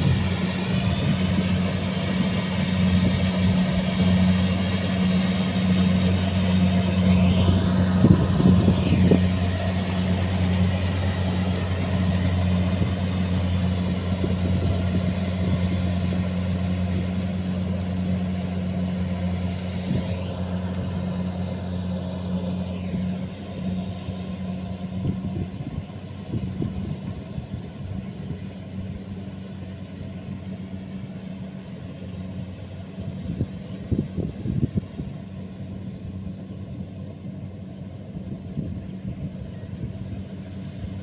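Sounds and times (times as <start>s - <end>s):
combine harvester diesel engine: 0.0s - 41.0s.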